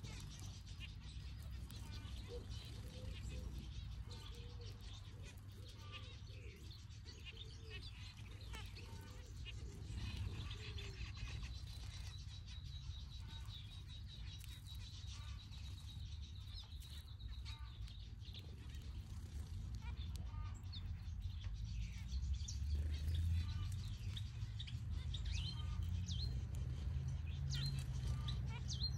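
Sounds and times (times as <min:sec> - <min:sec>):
finch chirps: 0:00.0 - 0:28.9.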